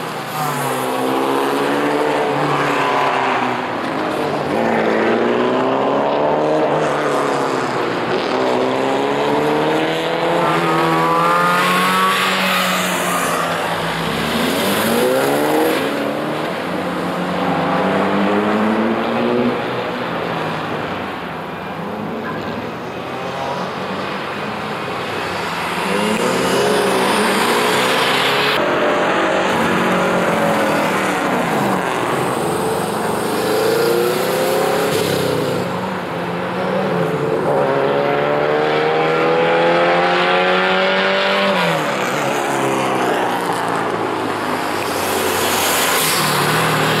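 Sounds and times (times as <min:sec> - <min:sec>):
tyre and road noise: 0:00.0 - 0:47.0.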